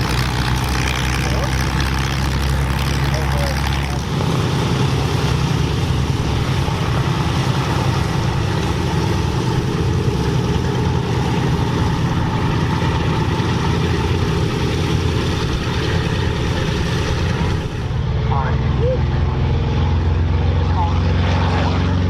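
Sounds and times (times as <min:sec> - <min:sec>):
piston engines droning: 0:00.0 - 0:22.0.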